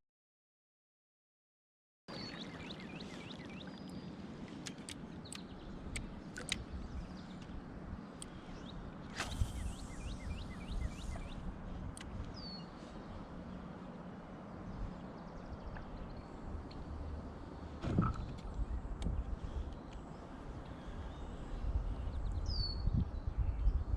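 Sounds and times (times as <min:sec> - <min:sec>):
songbird chirping: 0:02.1 - 0:23.9.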